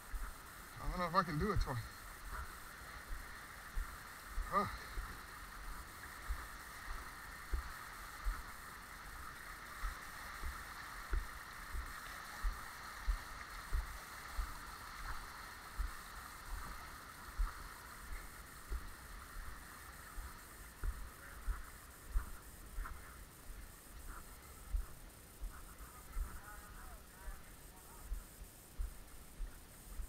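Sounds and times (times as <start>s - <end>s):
high hiss: 0.0s - 30.0s
footsteps on earthen steps: 1.6s - 8.5s, 9.2s - 26.4s.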